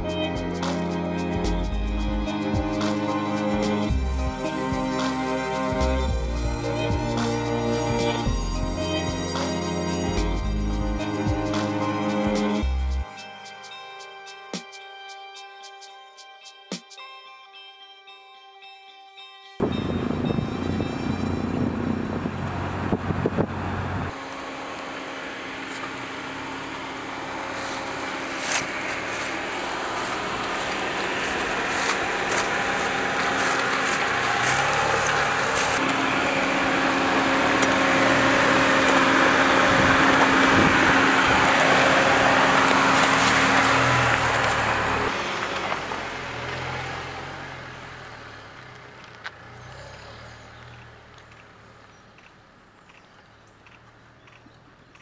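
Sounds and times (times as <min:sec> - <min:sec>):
car engine and tyre noise: 0:00.0 - 0:14.2, 0:19.6 - 0:55.0.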